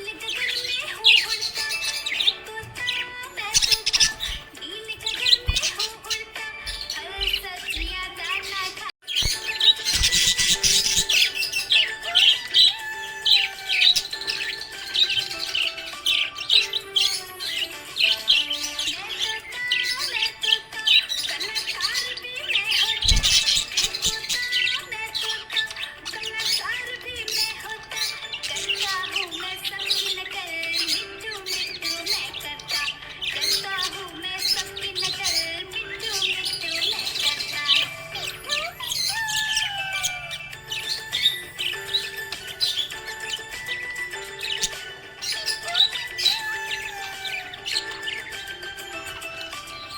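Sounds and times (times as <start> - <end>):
background music: 0.0 - 49.9
parrots chirping: 0.0 - 49.9.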